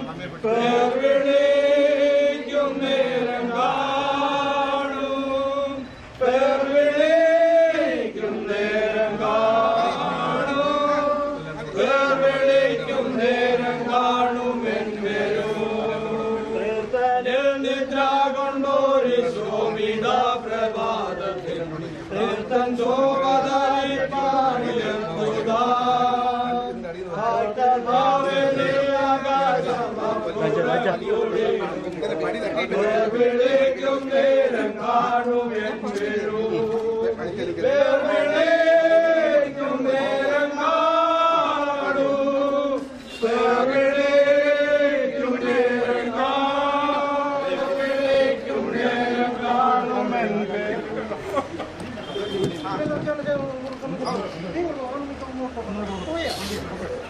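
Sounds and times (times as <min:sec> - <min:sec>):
mourners singing a slow hymn: 0:00.0 - 0:32.0, 0:32.6 - 0:52.2.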